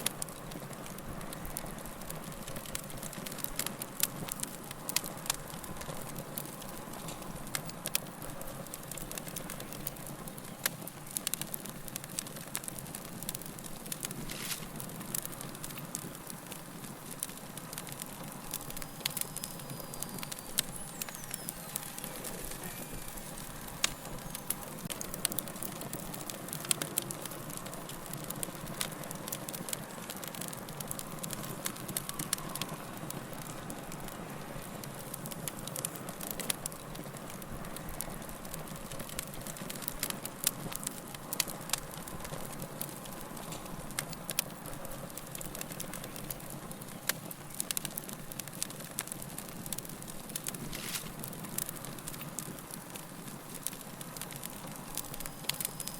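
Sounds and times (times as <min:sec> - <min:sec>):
log fire crackling and popping: 0:00.0 - 0:55.9.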